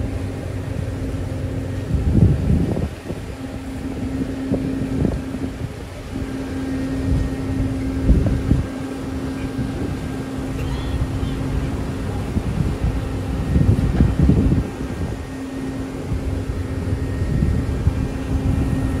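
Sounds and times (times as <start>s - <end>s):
ship engines droning: 0.0s - 19.0s
wind buffeting microphone: 0.0s - 19.0s.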